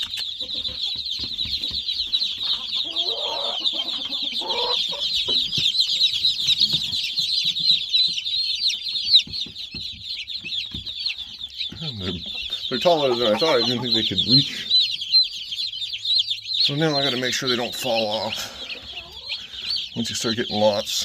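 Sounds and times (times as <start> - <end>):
chicks and ducklings peeping: 0.0 - 21.0.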